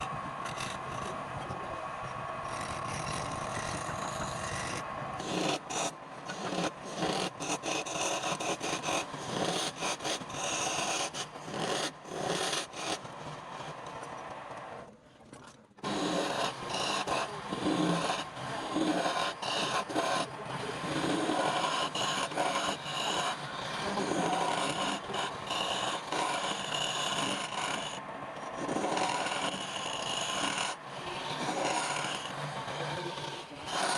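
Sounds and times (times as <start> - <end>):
tool scraping wood: 0.0 - 1.6, 2.4 - 14.0, 15.8 - 33.9.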